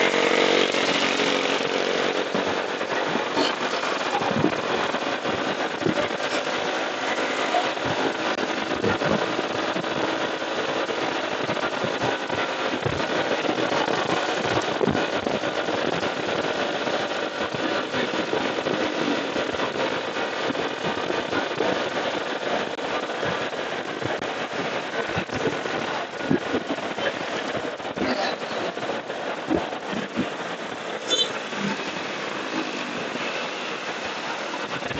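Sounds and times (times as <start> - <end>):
road and traffic noise: 0.0 - 34.9
wind buffeting microphone: 0.0 - 34.9.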